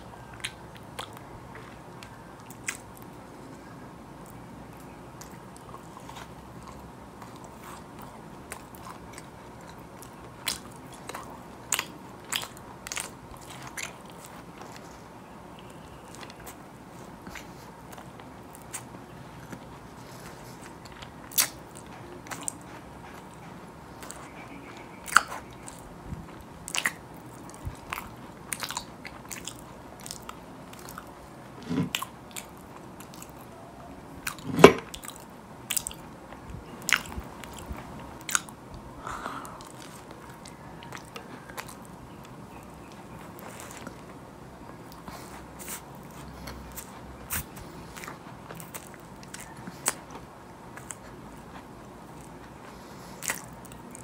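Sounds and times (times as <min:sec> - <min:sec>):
chewing: 0:00.1 - 0:54.0.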